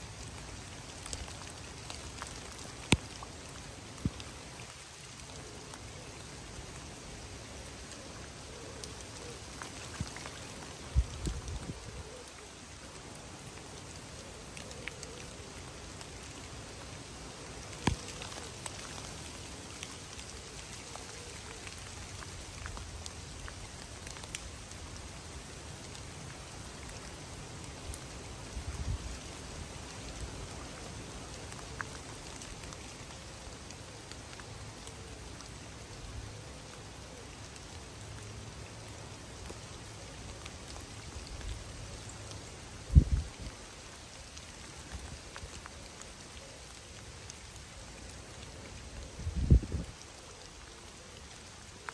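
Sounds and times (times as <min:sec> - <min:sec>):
rain falling on river: 0:00.0 - 0:51.9.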